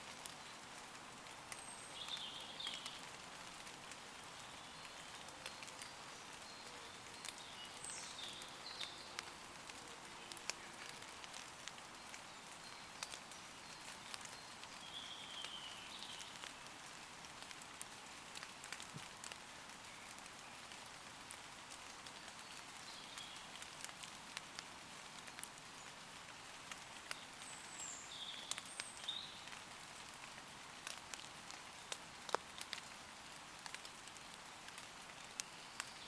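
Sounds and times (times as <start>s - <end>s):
light rain falling on leaves: 0.0s - 36.0s.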